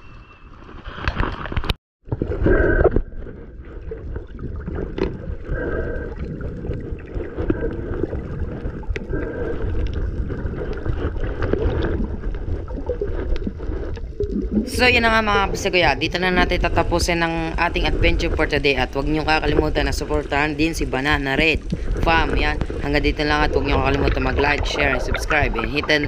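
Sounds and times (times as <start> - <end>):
water splashing around hulls: 0.1 - 26.0
wind buffeting microphone: 2.2 - 26.0.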